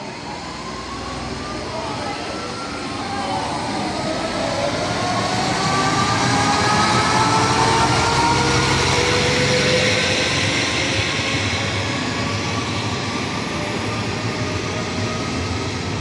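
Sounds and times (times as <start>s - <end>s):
diesel railcar engine rising: 0.0s - 16.0s.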